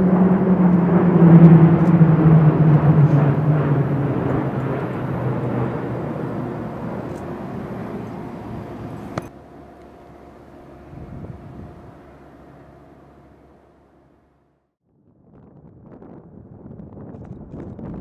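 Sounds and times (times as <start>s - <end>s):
propeller aircraft drone: 0.0s - 18.0s.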